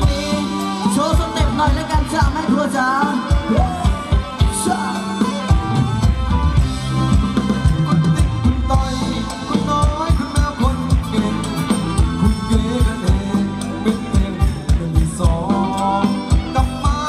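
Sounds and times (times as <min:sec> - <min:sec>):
folk dance music over loudspeakers: 0:00.0 - 0:17.0.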